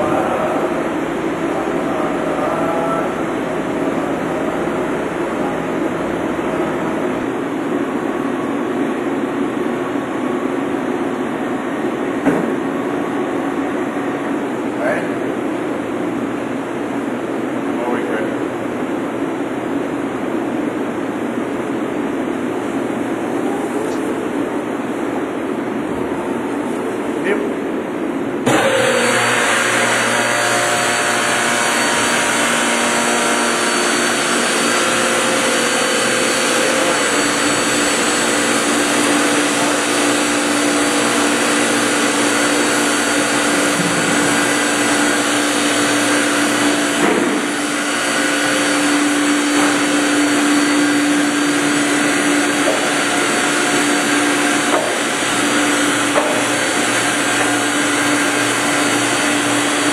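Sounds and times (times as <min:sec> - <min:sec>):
mill whirring hum: 0:00.0 - 0:59.9.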